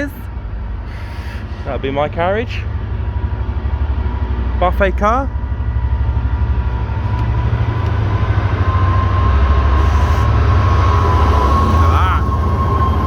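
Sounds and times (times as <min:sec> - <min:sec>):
diesel train rumbling: 0:00.0 - 0:13.0
train engine whine: 0:00.0 - 0:13.0.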